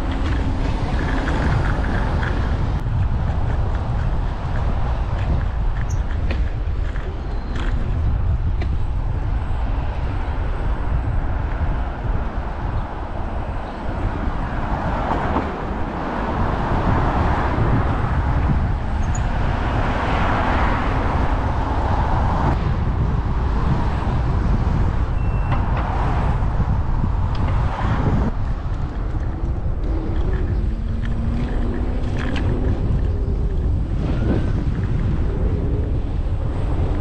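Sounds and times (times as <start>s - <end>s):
rushing traffic-like noise: 0.0s - 37.0s
tyres on road: 0.0s - 37.0s
wind on microphone: 0.0s - 37.0s.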